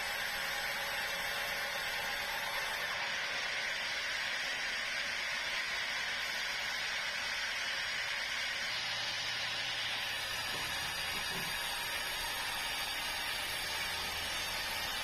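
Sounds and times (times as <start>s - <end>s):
saw cutting through log: 0.0s - 15.0s.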